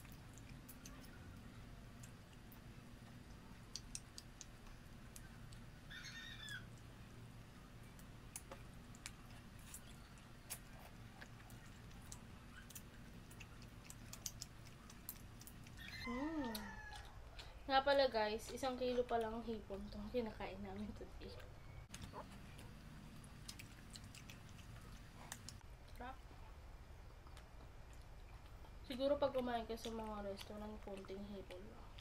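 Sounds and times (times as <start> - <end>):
shrimp peeling and chewing: 0.0 - 20.0, 20.8 - 26.1, 27.1 - 32.0
low steady hum: 0.0 - 32.0.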